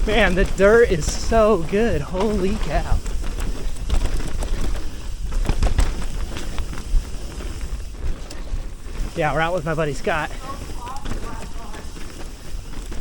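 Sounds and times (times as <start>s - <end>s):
bike rattling over bumps: 0.0s - 13.0s
tyres rolling over dirt: 0.0s - 13.0s.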